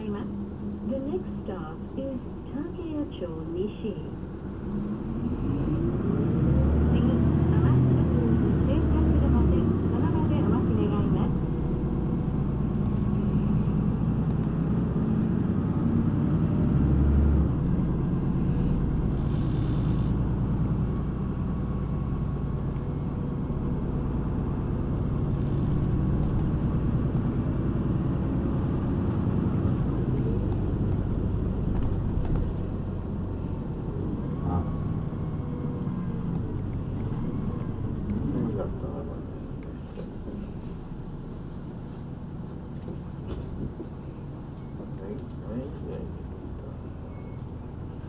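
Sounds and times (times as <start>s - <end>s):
bus engine and road noise: 0.0s - 48.0s.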